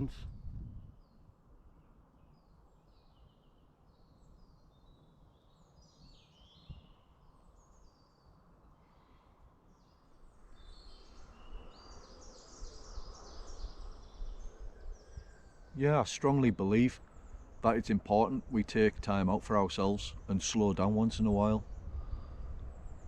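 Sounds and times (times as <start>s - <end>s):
low rumble of wind: 0.0s - 23.0s
small songbirds singing: 2.1s - 23.0s.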